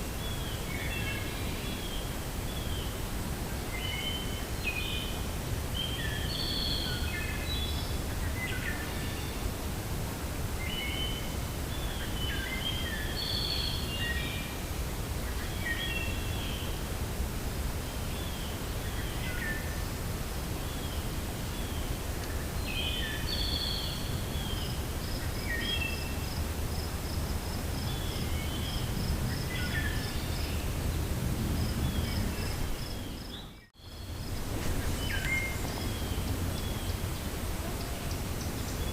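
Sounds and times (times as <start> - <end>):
wind through forest: 0.0 - 38.9.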